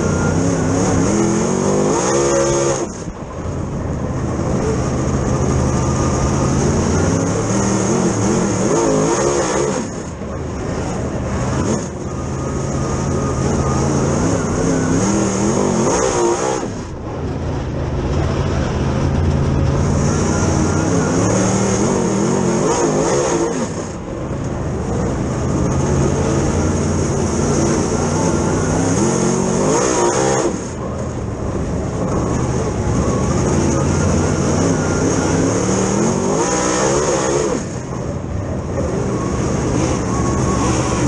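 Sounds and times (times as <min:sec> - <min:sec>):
race car engine at speed: 0:00.0 - 0:41.0.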